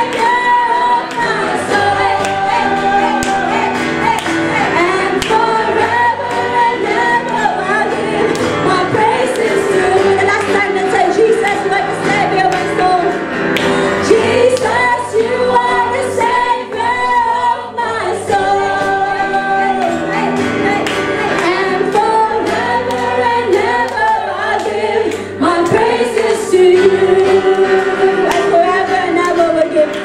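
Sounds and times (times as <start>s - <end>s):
women singing worship song: 0.0s - 30.0s.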